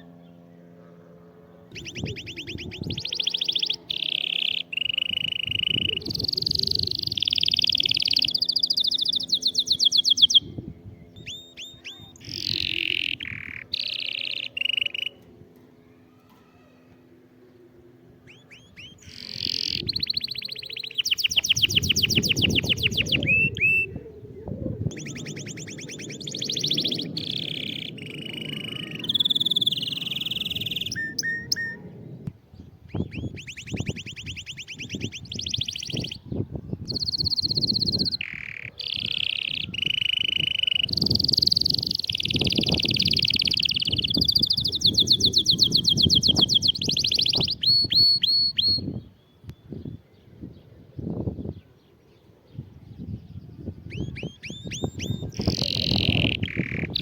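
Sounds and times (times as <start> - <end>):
canary singing: 0.0 - 15.3, 17.0 - 32.0, 32.9 - 49.6, 53.8 - 57.0.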